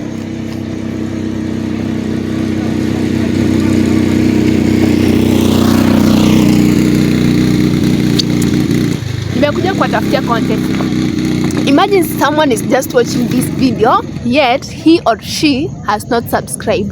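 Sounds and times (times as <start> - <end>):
motorcycle engine passing by: 0.0 - 16.9.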